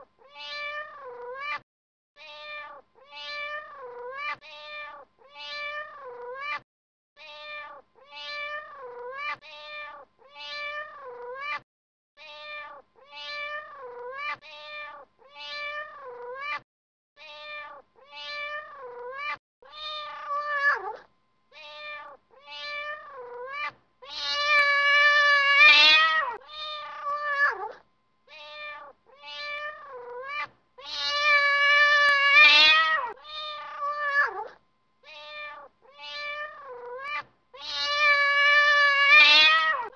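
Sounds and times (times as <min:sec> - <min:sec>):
cat meowing: 0:00.2 - 0:01.6, 0:02.2 - 0:06.6, 0:07.2 - 0:11.6, 0:12.2 - 0:16.6, 0:17.2 - 0:39.9.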